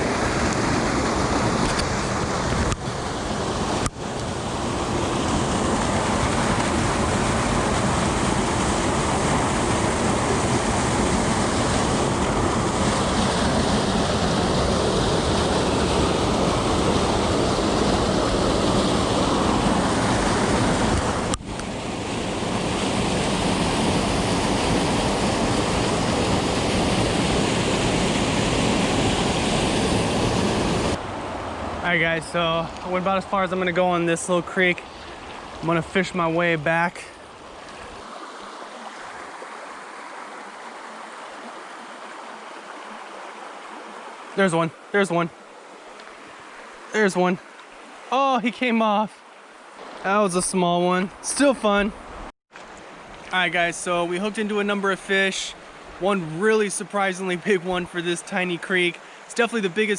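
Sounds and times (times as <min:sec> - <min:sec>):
creek rapids rushing: 0:00.0 - 0:52.2.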